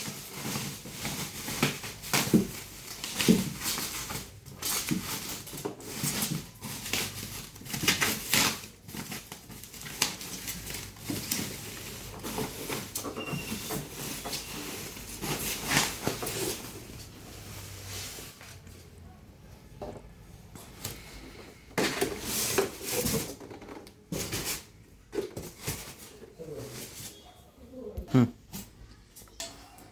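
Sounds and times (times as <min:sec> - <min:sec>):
packaging rustling and scraping: 0:00.0 - 0:19.0, 0:20.6 - 0:27.5.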